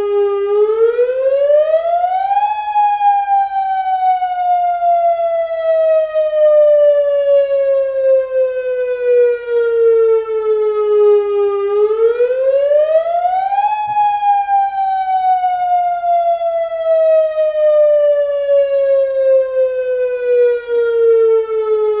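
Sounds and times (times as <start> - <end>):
warning siren gliding in pitch: 0.0 - 22.0.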